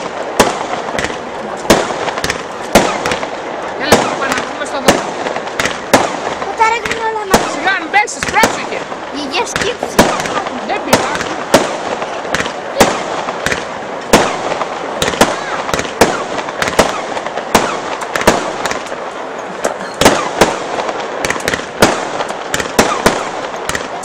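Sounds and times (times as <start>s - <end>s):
constant noisy background: 0.0s - 24.0s
fireworks bangs: 0.0s - 24.0s.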